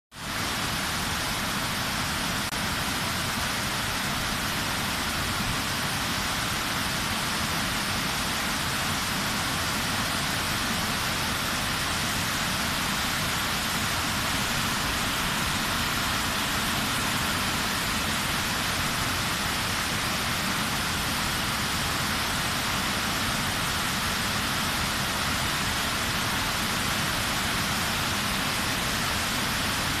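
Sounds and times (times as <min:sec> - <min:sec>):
water rushing down spillway: 0:00.2 - 0:30.0.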